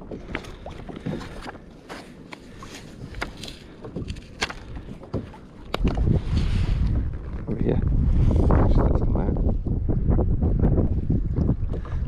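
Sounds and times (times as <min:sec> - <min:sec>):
faint wind: 0:00.0 - 0:12.0
water noise: 0:00.0 - 0:12.0.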